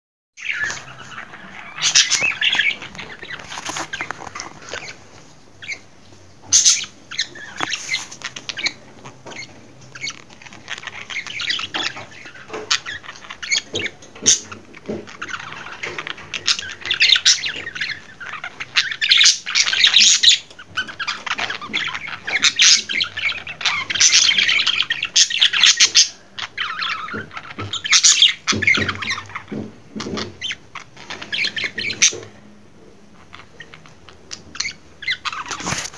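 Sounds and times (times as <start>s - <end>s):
budgerigar chattering and warbling: 0.4s - 5.0s, 5.6s - 32.3s, 33.2s - 35.8s.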